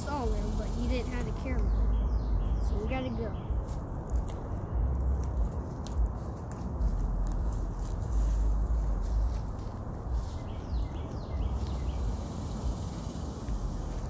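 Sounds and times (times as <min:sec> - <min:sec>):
low rumble on microphone: 0:00.0 - 0:14.0
footsteps through dry twigs: 0:00.6 - 0:14.0.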